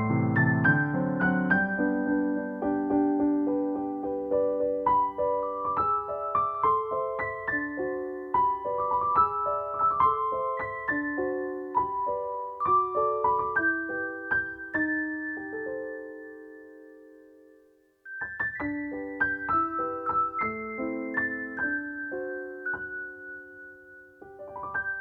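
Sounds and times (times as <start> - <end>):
gentle solo piano melody: 0.0 - 25.0.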